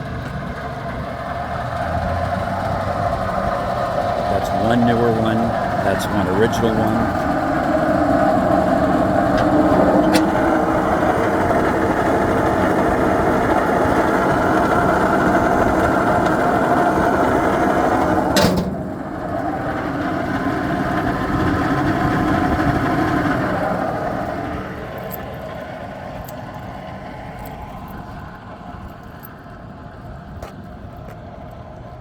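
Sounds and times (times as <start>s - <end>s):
exhaust fan whirring: 0.0s - 32.0s.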